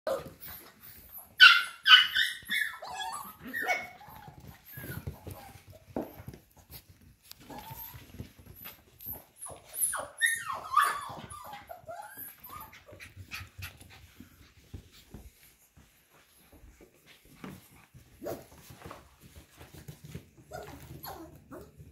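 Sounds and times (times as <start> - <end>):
puppies yipping and whining: 0.1 - 14.8, 17.4 - 21.9.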